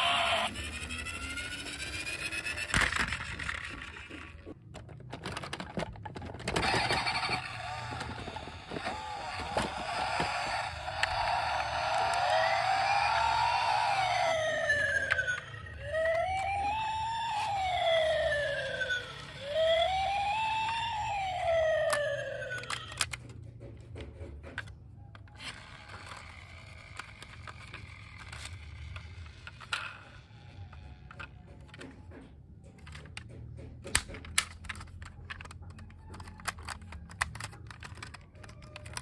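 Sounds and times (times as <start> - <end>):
toy siren wailing: 0.0 - 4.6, 6.4 - 23.2, 25.1 - 32.2, 34.8 - 39.0.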